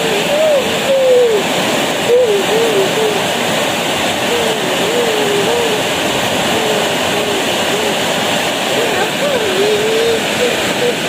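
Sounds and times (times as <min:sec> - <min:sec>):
faint gliding call: 0:00.0 - 0:11.0
heavy rain pouring: 0:00.0 - 0:11.0.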